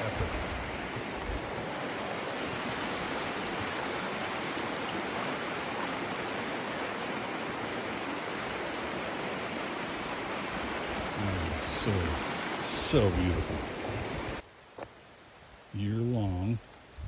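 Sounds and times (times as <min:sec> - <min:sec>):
creek rushing over stones: 0:00.0 - 0:14.4.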